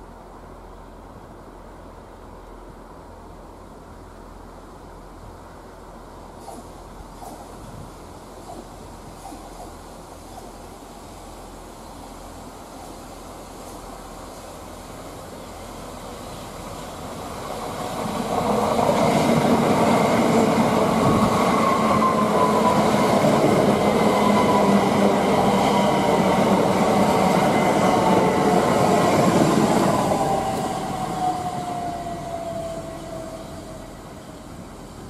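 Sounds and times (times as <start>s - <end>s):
train wheels rushing on rail: 5.3s - 35.0s.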